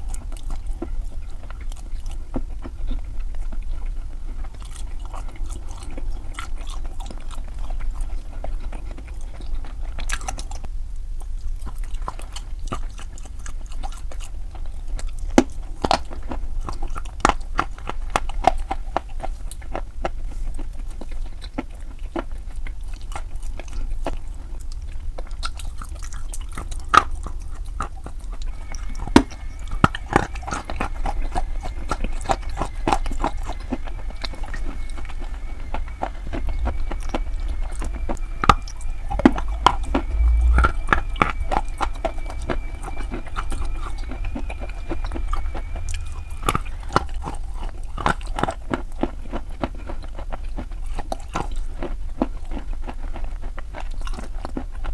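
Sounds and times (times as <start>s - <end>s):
person chewing crunchy chalk: 0.0s - 54.9s
steady low hum: 0.0s - 54.9s.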